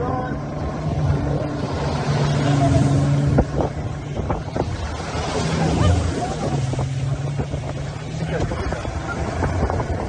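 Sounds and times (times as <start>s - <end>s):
wind noise on microphone: 0.1s - 10.0s.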